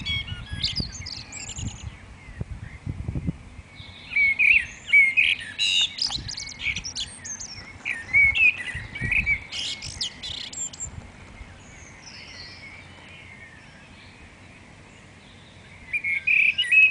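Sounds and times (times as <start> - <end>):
songbirds singing: 0.0 - 16.9.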